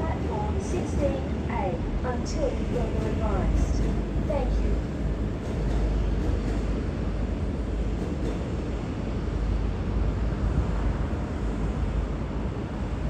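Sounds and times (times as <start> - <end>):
diesel train rumbling: 0.0 - 13.0.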